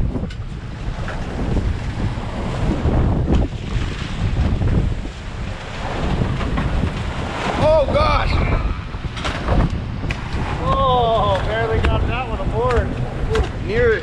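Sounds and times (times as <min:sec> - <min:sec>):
water rushing along hull: 0:00.0 - 0:14.0
waves breaking: 0:00.0 - 0:14.0
wind buffeting microphone: 0:00.0 - 0:14.0.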